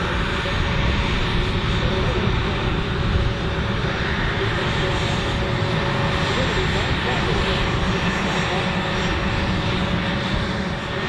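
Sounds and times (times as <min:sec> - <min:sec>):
jet engines whining at taxi power: 0:00.0 - 0:11.0.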